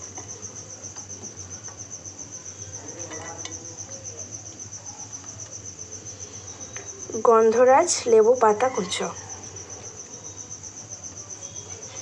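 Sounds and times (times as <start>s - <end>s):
insect chirping rapidly: 0.0s - 12.0s.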